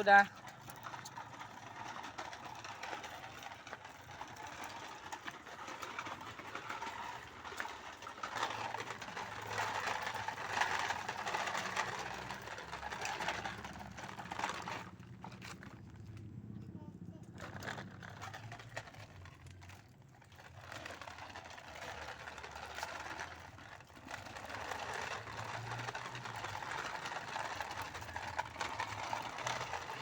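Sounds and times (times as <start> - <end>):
toy vehicle whirring rattle: 0.0 - 15.9, 17.2 - 30.0.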